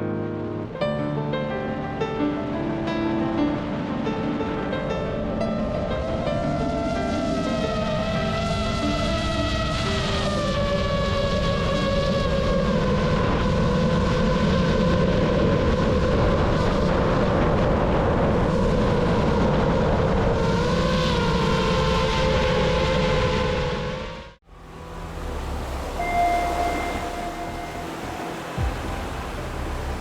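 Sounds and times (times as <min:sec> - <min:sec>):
rushing wind: 0:02.0 - 0:30.0.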